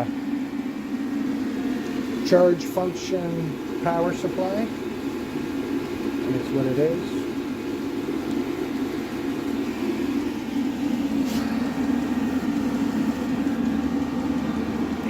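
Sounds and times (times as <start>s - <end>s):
air heater humming: 0.0s - 15.0s.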